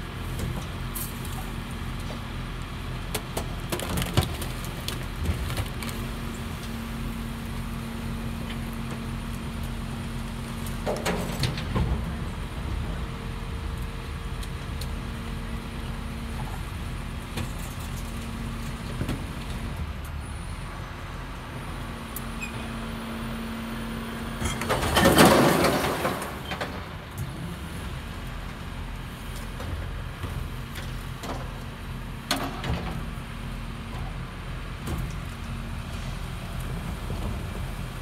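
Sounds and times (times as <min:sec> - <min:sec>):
garbage truck humming: 0:00.1 - 0:38.0.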